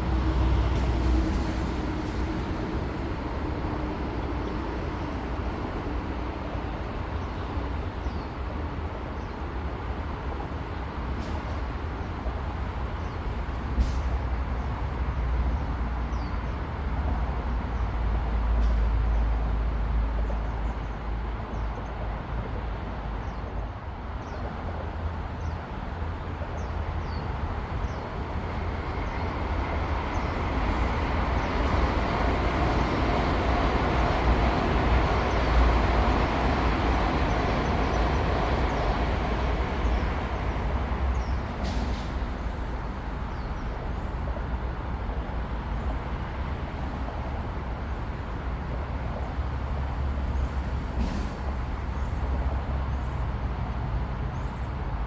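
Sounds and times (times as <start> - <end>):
train rushing noise: 0.0 - 55.0.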